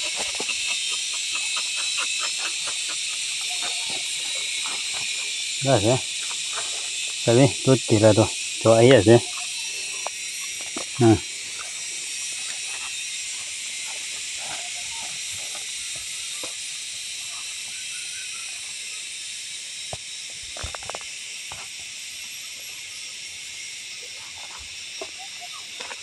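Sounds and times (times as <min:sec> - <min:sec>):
insect chorus hiss: 0:00.0 - 0:26.0.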